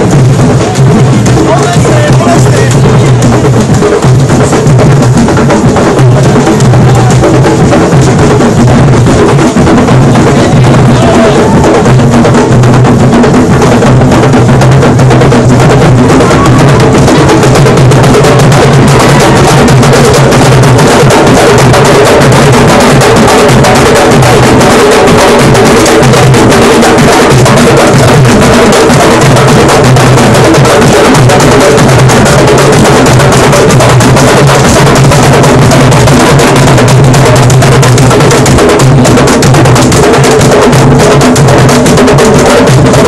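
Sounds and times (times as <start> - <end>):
hand drums beating: 0.0 - 43.0.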